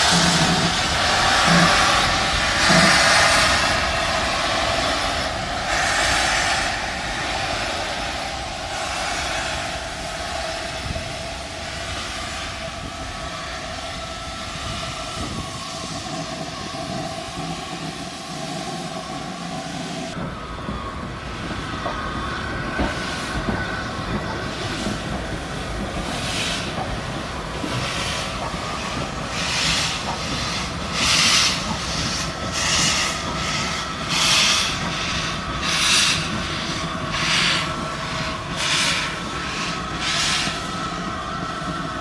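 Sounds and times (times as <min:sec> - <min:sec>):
steam hissing: 0:00.0 - 0:42.0
steam locomotive chuffing: 0:00.0 - 0:42.0.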